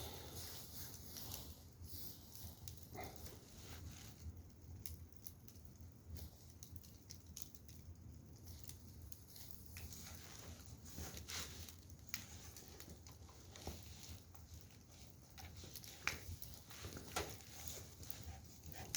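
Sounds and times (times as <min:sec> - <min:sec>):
firewood crackling and popping: 0:00.0 - 0:18.9.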